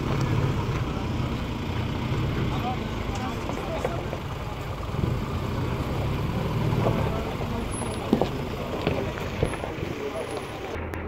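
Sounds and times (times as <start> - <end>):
truck engine running low: 0.0 - 11.0.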